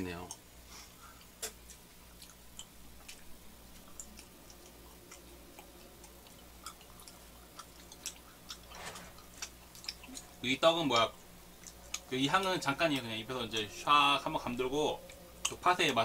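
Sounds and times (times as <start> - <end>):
low steady hum: 0.0 - 16.0
chewing sticky rice cakes: 0.2 - 16.0.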